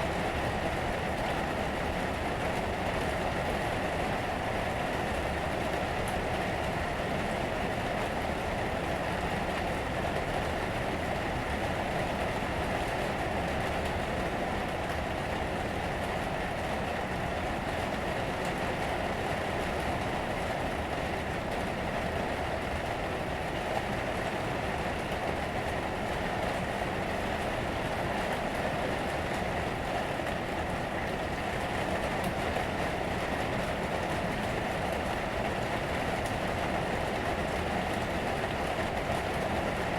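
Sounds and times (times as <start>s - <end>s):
rain pattering on roof: 0.0s - 39.9s.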